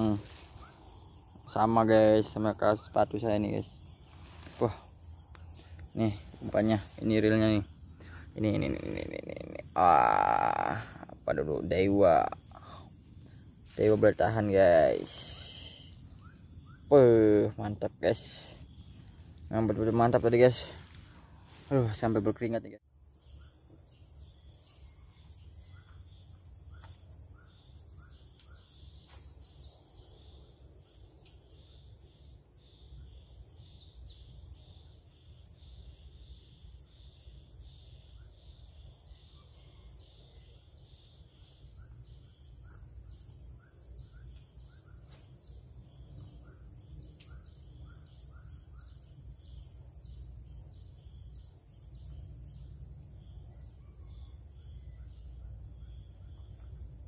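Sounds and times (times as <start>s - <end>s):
crickets droning: 0.0s - 57.0s
insect chirps: 0.0s - 57.0s.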